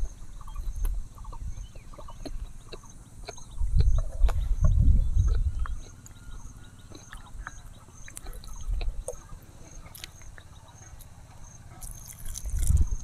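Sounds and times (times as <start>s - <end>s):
wind rumble on microphone: 0.0s - 9.5s, 12.0s - 13.0s
insect chirping: 0.0s - 13.0s.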